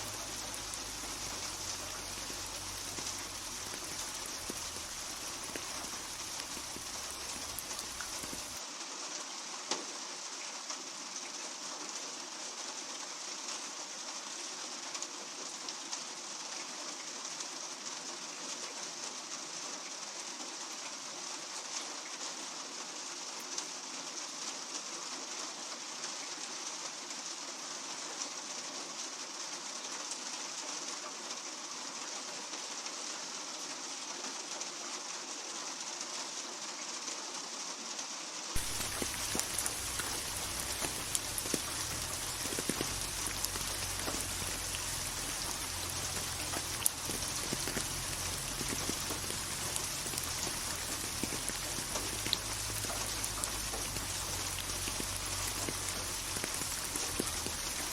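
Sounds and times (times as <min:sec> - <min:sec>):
rain falling on a surface: 0:00.0 - 0:57.9.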